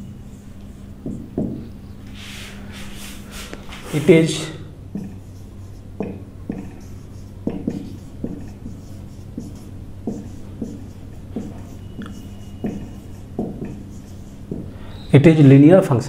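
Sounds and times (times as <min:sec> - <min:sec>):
steady low hum: 0:00.0 - 0:16.0
marker writing on whiteboard: 0:01.0 - 0:15.4.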